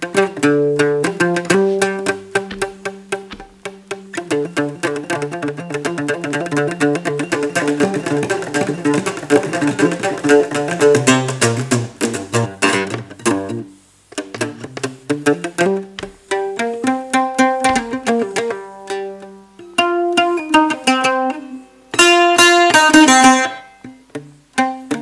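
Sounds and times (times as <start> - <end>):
plucked lute melody: 0.0 - 25.0.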